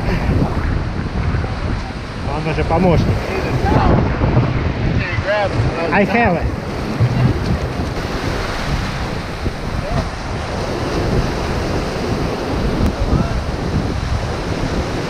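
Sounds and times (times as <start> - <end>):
ocean surf washing over sand: 0.0 - 15.0
wind buffeting microphone: 0.0 - 15.0.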